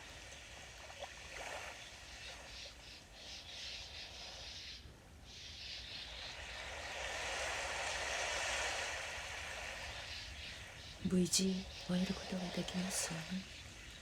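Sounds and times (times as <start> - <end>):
sea waves washing on shore: 0.0 - 4.6, 6.0 - 14.0.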